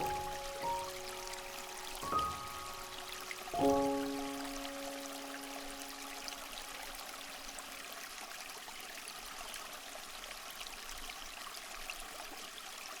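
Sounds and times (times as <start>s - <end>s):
stream water flowing: 0.0s - 13.0s
water splashes and drips: 0.0s - 13.0s.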